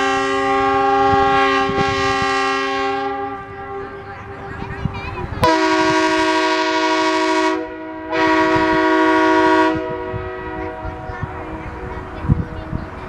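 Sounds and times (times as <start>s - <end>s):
multi-tone horn blasts: 0.0s - 4.3s, 5.4s - 12.2s.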